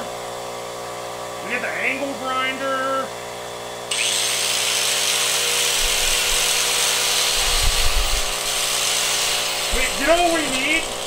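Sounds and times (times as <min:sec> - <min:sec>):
angle grinder whining: 0:00.0 - 0:11.0
hum of running machines: 0:00.0 - 0:11.0.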